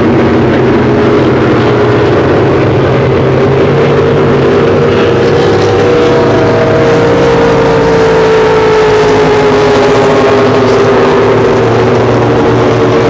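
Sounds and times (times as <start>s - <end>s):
speedboat engines racing: 0.0s - 13.0s.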